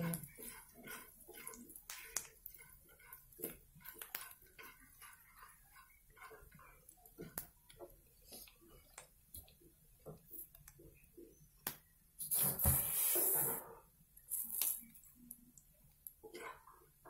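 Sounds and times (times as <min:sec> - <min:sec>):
wooden spatula stirring in pan: 0:00.0 - 0:14.2, 0:14.8 - 0:17.0.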